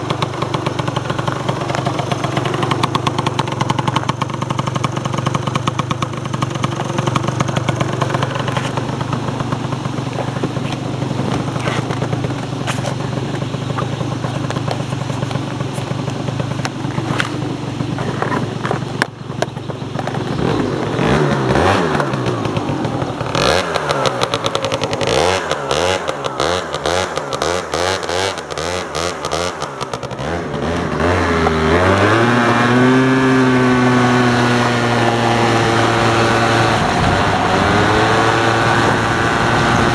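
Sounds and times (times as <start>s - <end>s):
two-stroke scooter engine revving: 0.0s - 39.9s.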